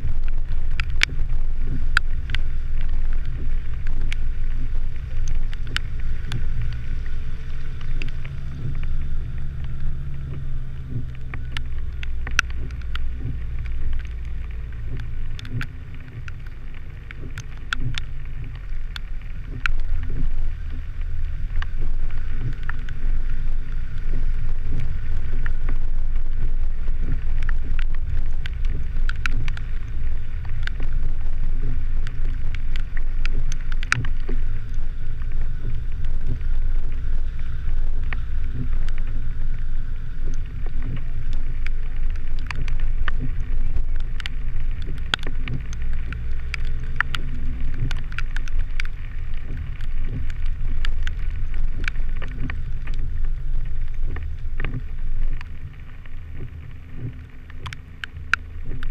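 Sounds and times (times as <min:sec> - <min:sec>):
vehicle rumbling on rough road: 0:00.0 - 0:58.9.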